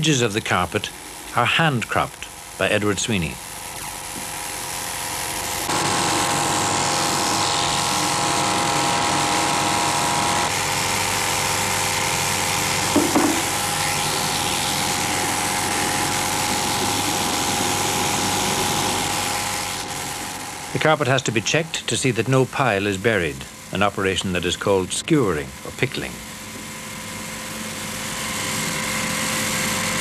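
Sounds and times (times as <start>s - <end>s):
electric shears motor whine: 0.0s - 30.0s.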